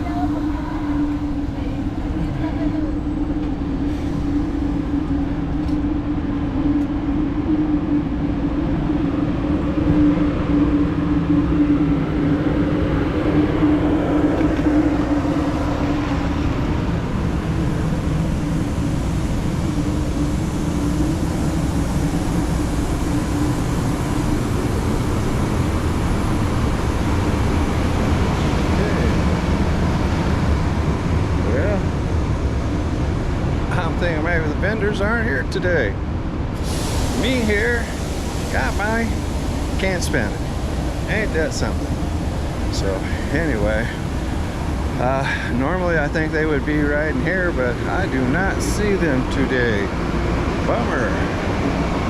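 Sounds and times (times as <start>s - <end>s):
train engine idling: 0.0s - 52.0s.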